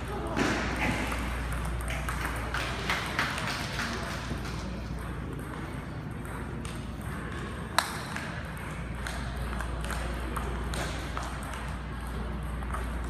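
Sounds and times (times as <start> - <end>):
table tennis balls clicking: 0.1 - 13.0.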